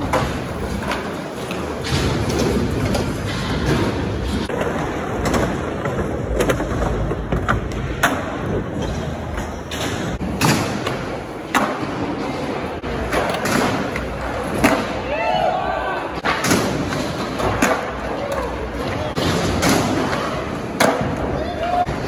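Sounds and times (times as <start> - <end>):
skateboard wheels rumbling on concrete: 0.0 - 22.0
skateboards clacking and landing: 0.0 - 22.0.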